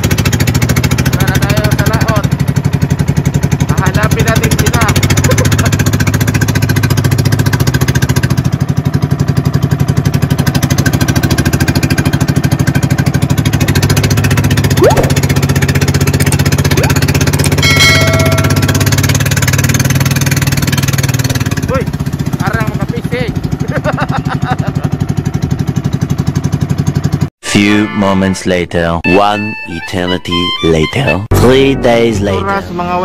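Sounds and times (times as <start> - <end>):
boat engine running: 0.0 - 27.3.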